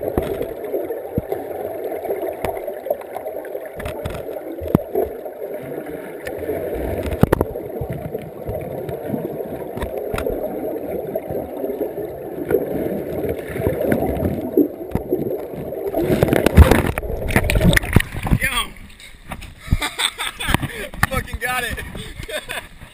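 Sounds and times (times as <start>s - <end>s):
muffled underwater river gurgling: 0.0s - 22.9s.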